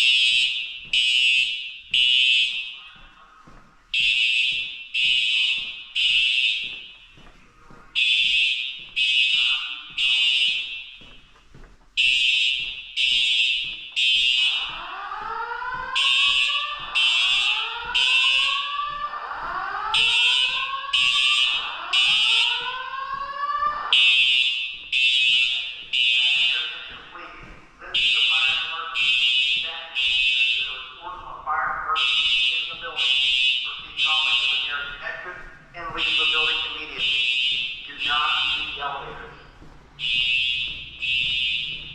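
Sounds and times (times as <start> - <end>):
fire alarm horn blasts: 0.0 - 3.2, 3.9 - 7.3, 7.9 - 11.2, 12.0 - 41.9.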